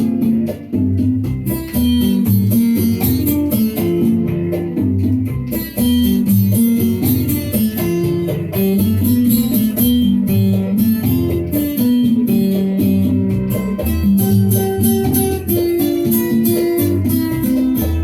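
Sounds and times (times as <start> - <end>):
percussion strokes: 0.0 - 18.0
plucked string lines: 0.0 - 18.0
walking bass: 0.0 - 18.0.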